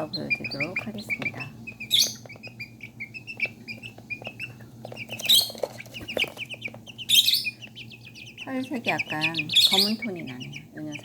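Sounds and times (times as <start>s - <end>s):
chicks peeping: 0.0s - 11.0s
faint low hum: 0.0s - 11.0s.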